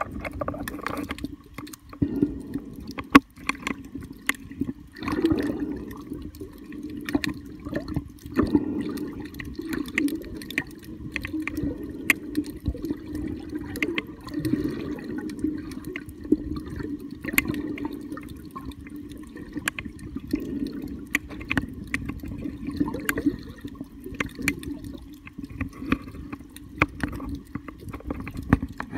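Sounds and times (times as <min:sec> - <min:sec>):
muffled underwater water rush: 0:00.0 - 0:28.9
sharp underwater clicks: 0:00.0 - 0:28.9.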